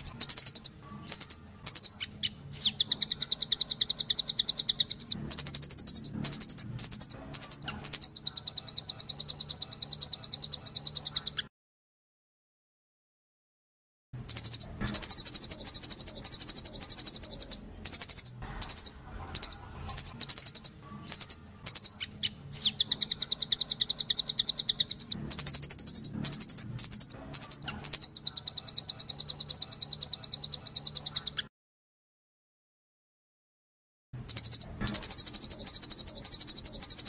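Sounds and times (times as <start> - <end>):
bird calling in rapid trills: 0.0 - 11.5, 14.2 - 31.5, 34.2 - 37.0.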